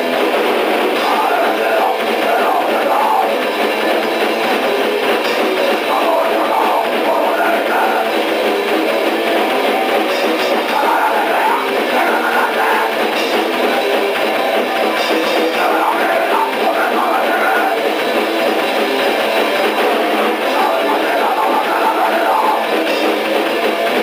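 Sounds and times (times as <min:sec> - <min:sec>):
distorted electric guitar: 0:00.0 - 0:24.0
drum kit: 0:00.0 - 0:24.0.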